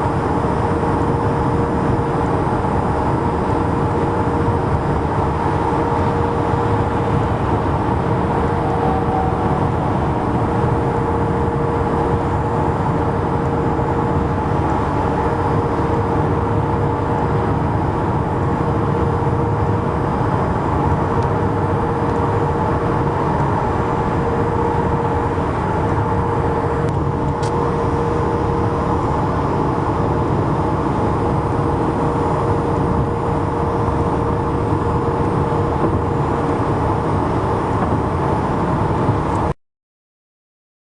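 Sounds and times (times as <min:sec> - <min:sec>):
highway traffic hum: 0:00.0 - 0:39.6.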